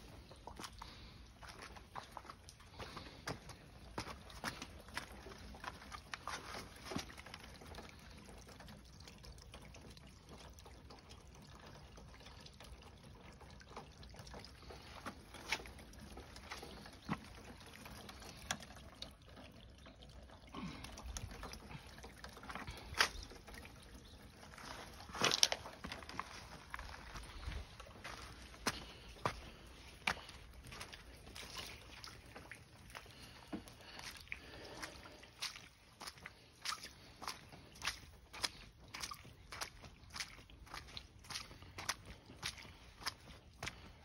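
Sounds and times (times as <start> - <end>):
water trickling in ditch: 0.0 - 44.0.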